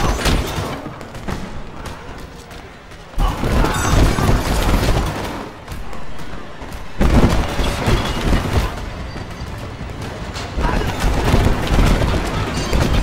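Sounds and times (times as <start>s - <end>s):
fight blows and thuds: 0.0s - 13.0s.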